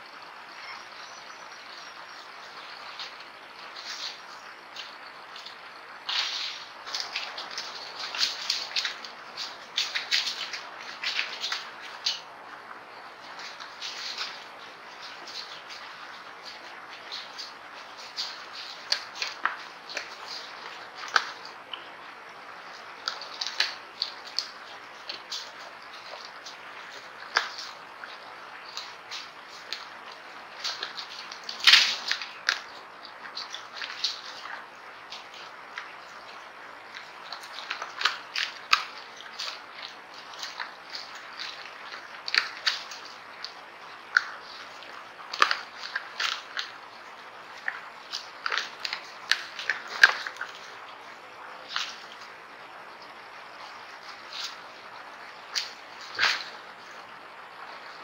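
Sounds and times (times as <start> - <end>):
dry leaves crunching: 2.8 - 57.0.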